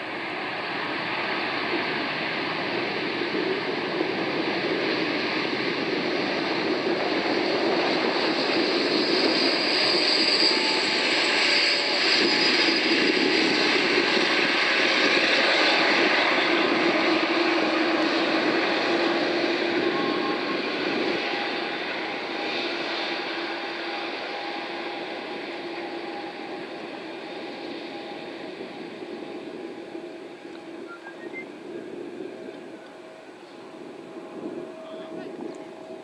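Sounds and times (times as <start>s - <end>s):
jet engine roar: 0.0s - 36.0s.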